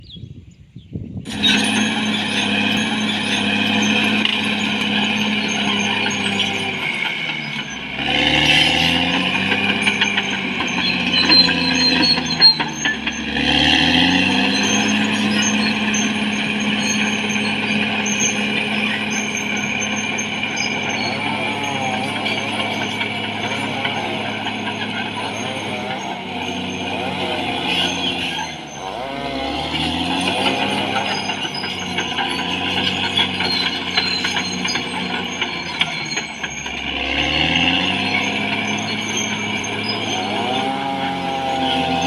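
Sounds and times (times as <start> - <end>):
bulldozer diesel engine: 1.2 - 42.0.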